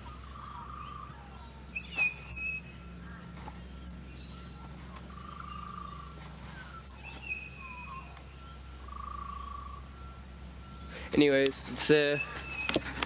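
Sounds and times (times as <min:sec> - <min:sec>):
steady low hum: 0:00.0 - 0:13.0
faint whistled notes: 0:01.3 - 0:11.0, 0:12.0 - 0:13.0.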